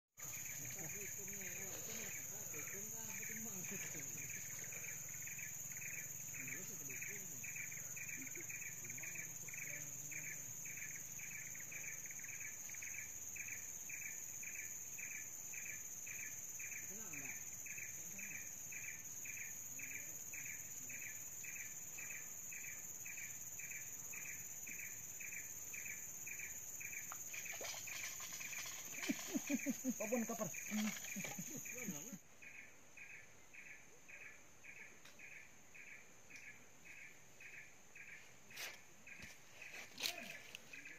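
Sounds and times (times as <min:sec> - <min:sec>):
insects droning: 0:00.2 - 0:40.9
pulsing insect call: 0:00.2 - 0:40.9.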